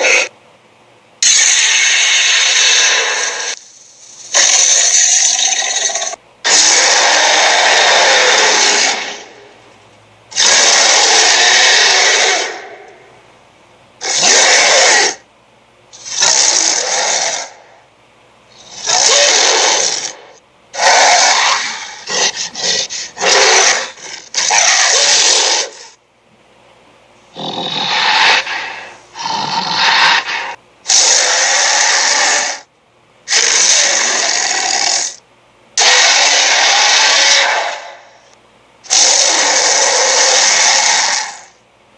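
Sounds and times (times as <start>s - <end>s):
cartoon creature rasping bursts: 0.0s - 0.3s, 1.2s - 9.4s, 10.3s - 12.9s, 14.0s - 15.2s, 16.0s - 17.7s, 18.6s - 26.0s, 27.3s - 32.7s, 33.3s - 35.2s, 35.8s - 38.0s, 38.9s - 41.6s.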